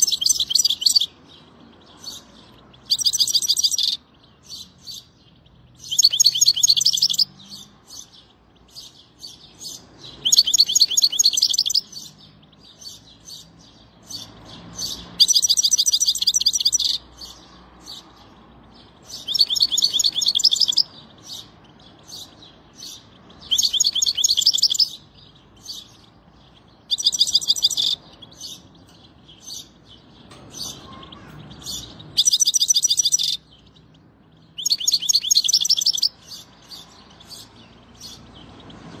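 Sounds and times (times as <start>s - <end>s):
bird chirps: 0.0s - 39.0s
songbird trilling: 0.0s - 39.0s.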